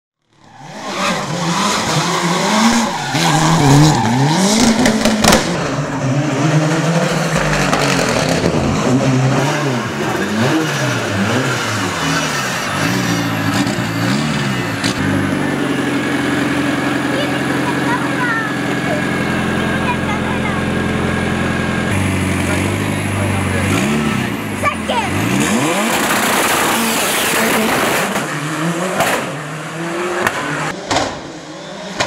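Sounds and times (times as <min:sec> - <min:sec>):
race car engine revving: 0:00.2 - 0:32.0
tyres skidding: 0:00.2 - 0:32.0.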